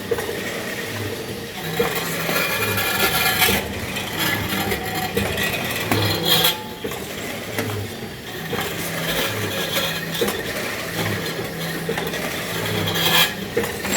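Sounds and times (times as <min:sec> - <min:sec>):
machine motor hum: 0:00.0 - 0:13.9.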